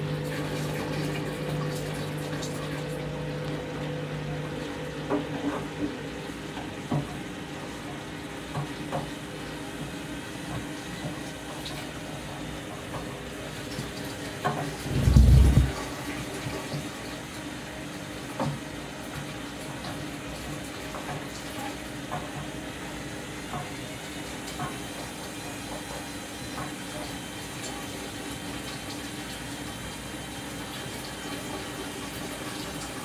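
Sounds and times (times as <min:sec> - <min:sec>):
washing machine motor hum: 0:00.0 - 0:33.0
water swishing in drum: 0:00.0 - 0:33.0.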